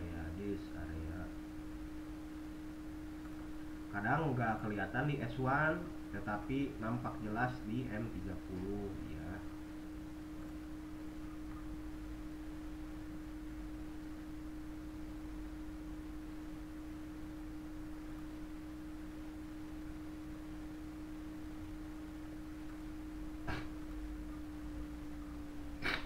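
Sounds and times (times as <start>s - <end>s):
steady single-pitch hum: 0.0s - 26.0s.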